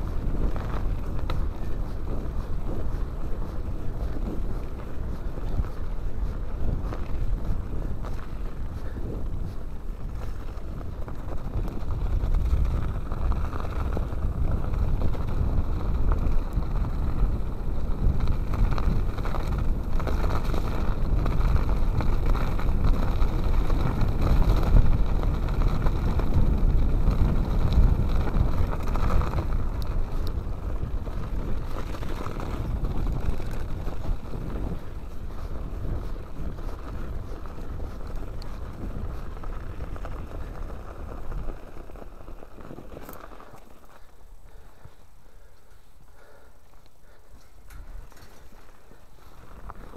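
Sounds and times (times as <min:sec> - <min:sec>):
bike rattling over bumps: 0:00.0 - 0:49.9
wind rumble on microphone: 0:00.0 - 0:49.9.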